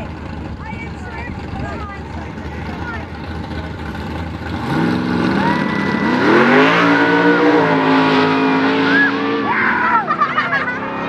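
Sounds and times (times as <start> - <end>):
truck engine accelerating hard: 0.0 - 11.0.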